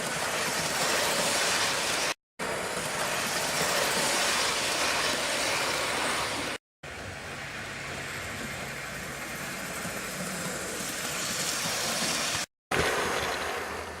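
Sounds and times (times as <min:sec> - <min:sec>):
model train whirring on track: 0:00.0 - 0:14.0.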